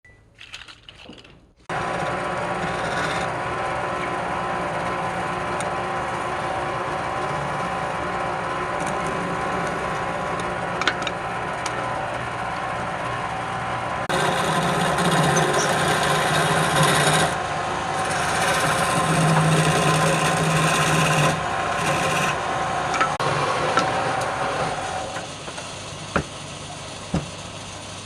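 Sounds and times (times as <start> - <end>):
wood lathe cutting hiss: 1.7 - 28.0.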